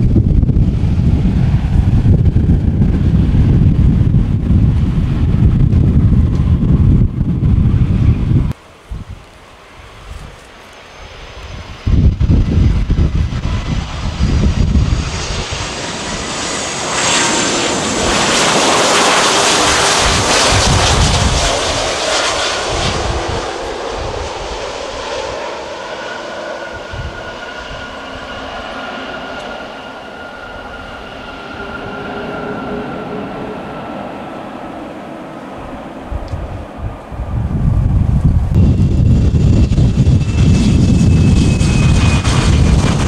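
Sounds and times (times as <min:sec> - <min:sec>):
jet airliner landing: 0:00.0 - 0:43.0.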